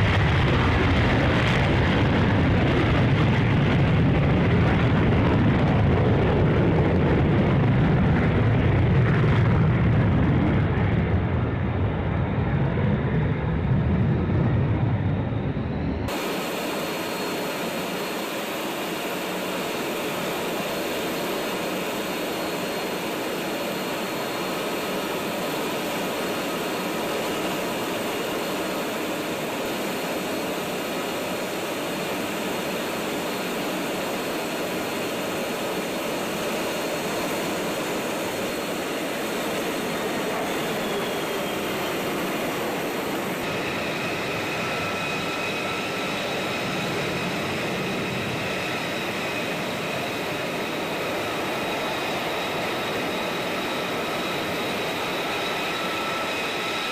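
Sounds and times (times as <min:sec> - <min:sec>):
fighter jets flying overhead: 0:00.0 - 0:56.9.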